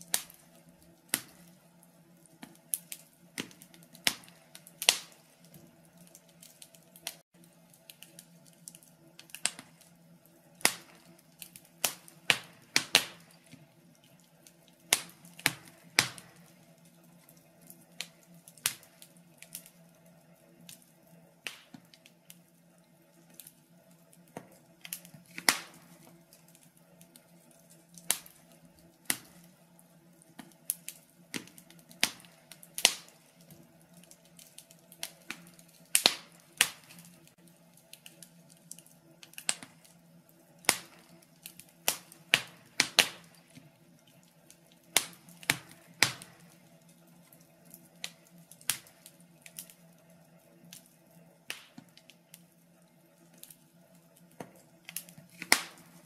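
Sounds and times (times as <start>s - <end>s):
wood fire crackling in a stove: 0.0s - 56.0s.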